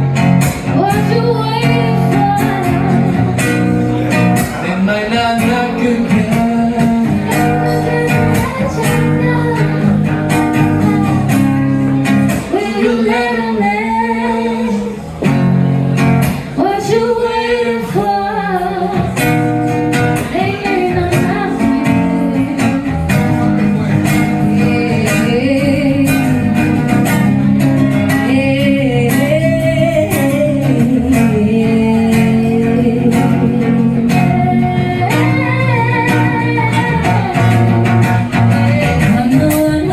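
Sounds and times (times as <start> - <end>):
live band with guitar: 0.0 - 39.9
person singing: 0.7 - 15.0, 16.6 - 39.9.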